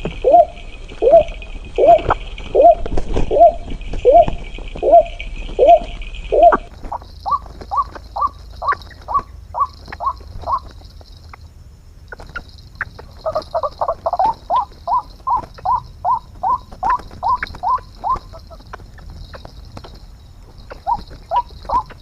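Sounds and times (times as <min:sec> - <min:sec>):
waterhen calling: 0:00.0 - 0:11.4, 0:12.1 - 0:19.5, 0:20.5 - 0:22.0.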